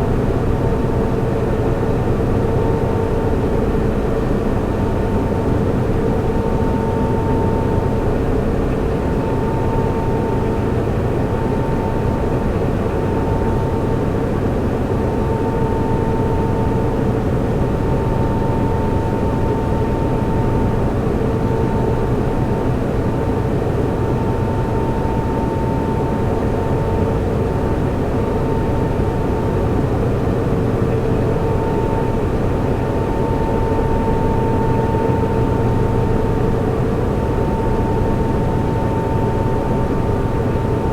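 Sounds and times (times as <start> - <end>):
cooling fans whirring: 0.0 - 40.9
faint hum: 0.0 - 40.9.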